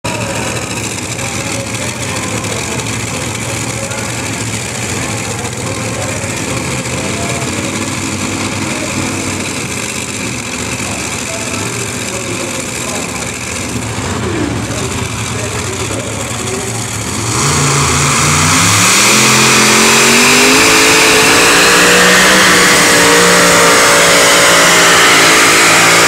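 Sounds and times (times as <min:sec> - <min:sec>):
tractor engine drone: 0:00.0 - 0:26.0.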